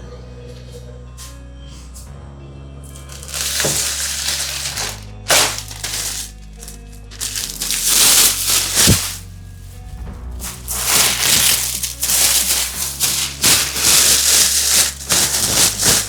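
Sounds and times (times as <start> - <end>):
background music: 0.0 - 16.0
packaging crinkling and rustling: 3.0 - 16.0.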